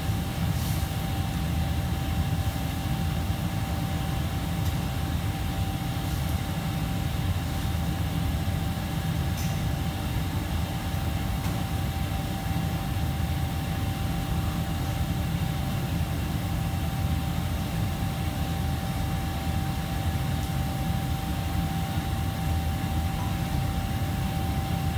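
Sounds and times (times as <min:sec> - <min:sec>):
kitchen fans low rumble: 0:00.0 - 0:24.9
thin constant whine: 0:00.0 - 0:24.9.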